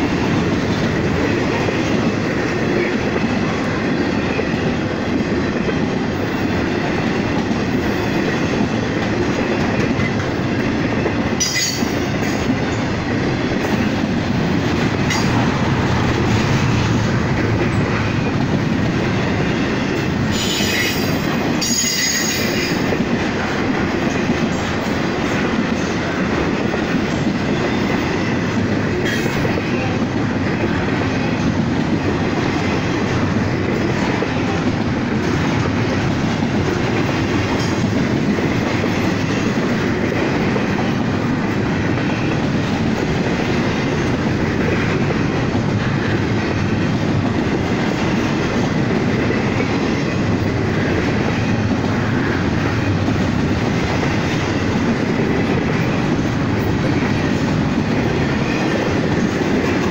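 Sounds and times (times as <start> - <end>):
freight train wheels rolling: 0.0 - 59.9.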